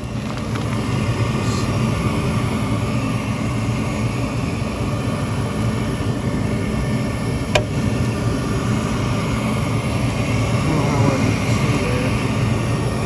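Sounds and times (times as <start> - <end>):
heating unit running: 0.0 - 13.0.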